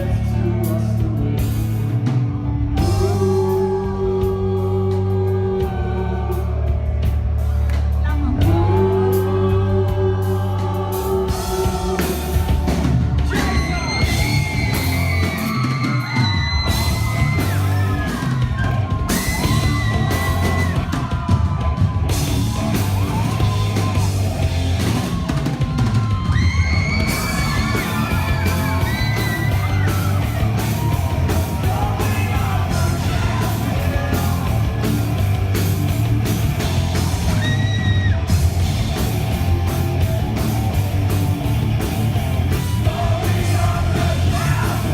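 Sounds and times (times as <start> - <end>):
singer yelling and singing: 0.0 - 7.1, 7.9 - 38.5, 41.9 - 44.9
live rock band playing: 0.0 - 44.9.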